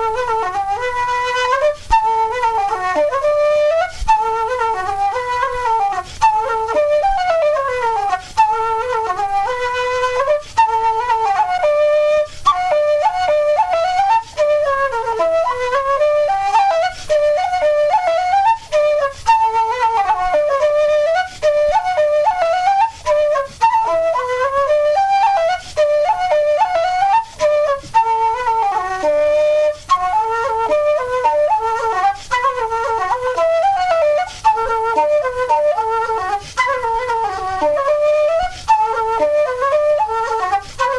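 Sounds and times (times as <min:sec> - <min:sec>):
flute playing folk tune: 0:00.0 - 0:40.9.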